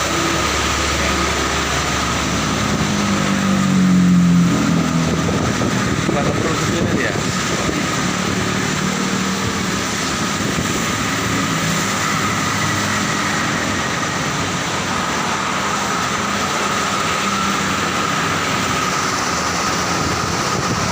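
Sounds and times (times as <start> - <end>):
road traffic passing: 0.0 - 20.9.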